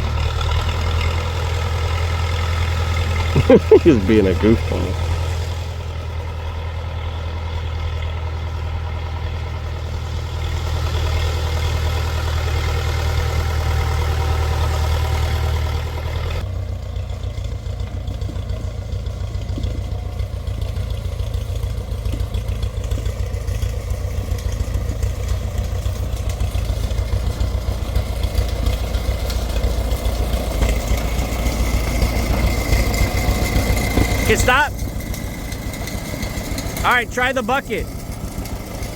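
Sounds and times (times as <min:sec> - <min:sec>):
backhoe engine running: 0:00.0 - 0:38.9.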